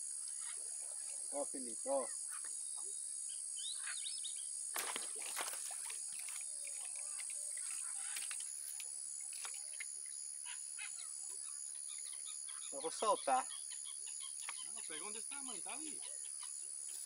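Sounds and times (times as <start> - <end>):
bird chirps: 0.3 - 4.6, 6.1 - 17.0.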